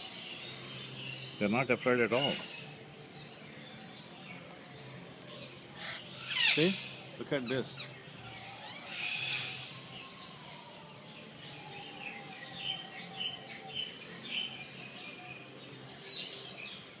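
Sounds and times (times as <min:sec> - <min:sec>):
birds chirping: 0:00.0 - 0:17.0
steady background noise: 0:00.0 - 0:17.0.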